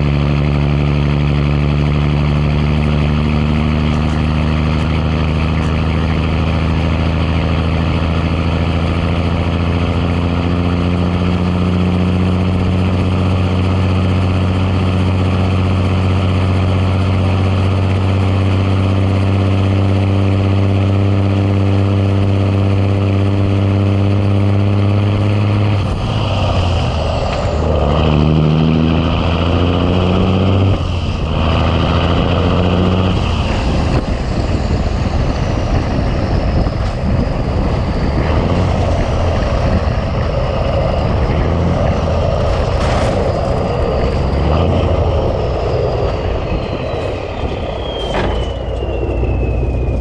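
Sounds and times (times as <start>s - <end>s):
diesel truck engine accelerating: 0.0s - 50.0s
high whine gliding down: 0.0s - 50.0s.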